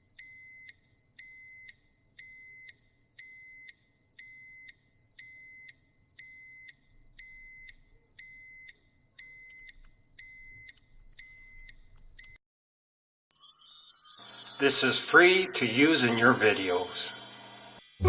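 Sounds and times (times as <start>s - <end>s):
shrill electronic alarm tone: 0.0s - 12.4s, 13.8s - 18.0s.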